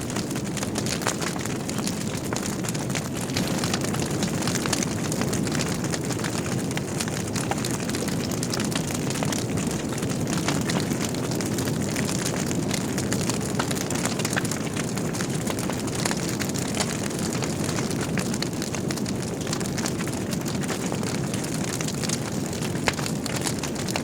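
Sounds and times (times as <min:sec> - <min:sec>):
fire crackling in fireplace: 0:00.0 - 0:24.0.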